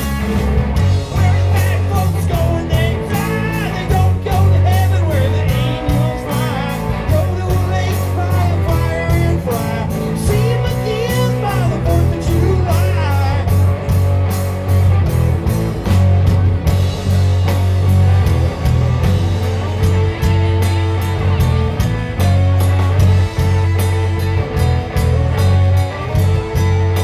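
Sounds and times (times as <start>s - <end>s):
bass guitar: 0.0s - 27.0s
drum kit beat with cymbals: 0.0s - 27.0s
electric guitar: 0.0s - 27.0s.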